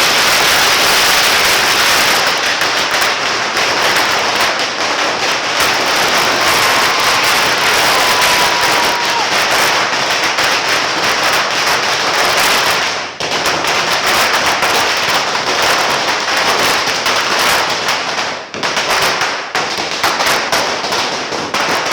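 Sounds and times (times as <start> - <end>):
firecrackers crackling: 0.0 - 21.9.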